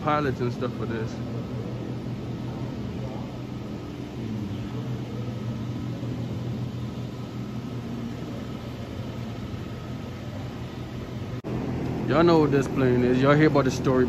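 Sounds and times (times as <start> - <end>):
faint high steady whine: 0.0 - 14.0
ventilation system hum: 0.0 - 14.0.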